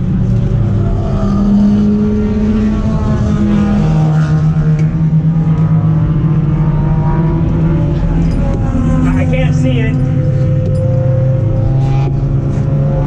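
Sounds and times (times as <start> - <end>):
race car engine running: 0.0 - 13.0.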